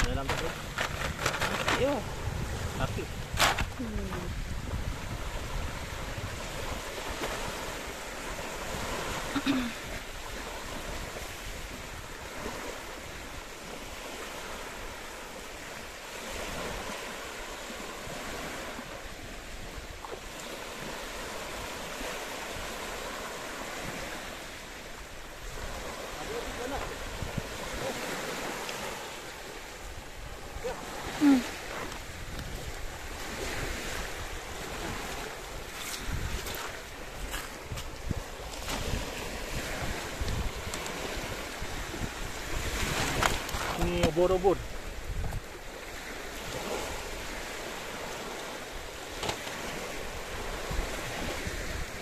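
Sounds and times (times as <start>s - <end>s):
small waves washing on beach: 0.0s - 52.0s
surf rushing: 0.0s - 52.0s
wind on microphone: 0.0s - 52.0s.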